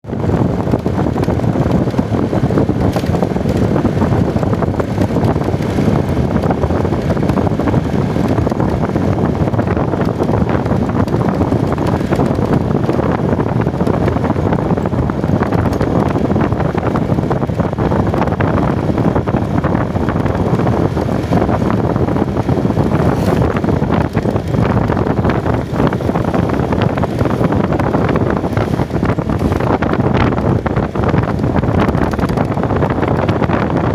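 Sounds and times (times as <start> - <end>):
vehicle running noise: 0.0 - 33.9
wind buffeting microphone: 0.0 - 33.9.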